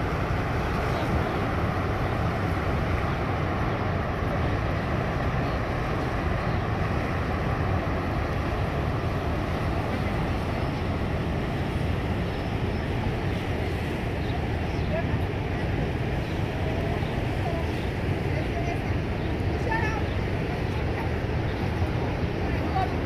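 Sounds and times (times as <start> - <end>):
waterfall rushing: 0.0 - 23.0
white-water rapids: 0.0 - 23.0.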